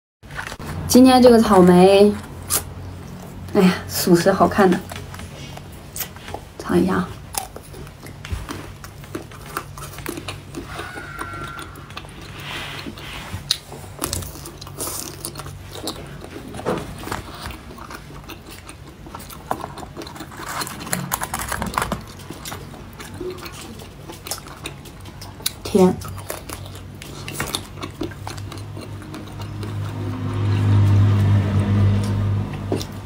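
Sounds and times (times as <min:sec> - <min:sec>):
person chewing wetly: 0:04.8 - 0:06.6, 0:07.2 - 0:33.0.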